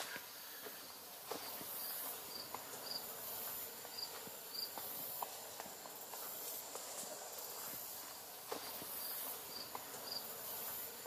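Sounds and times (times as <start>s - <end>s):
faint footsteps: 0.0s - 11.0s
insects trilling: 0.0s - 11.0s.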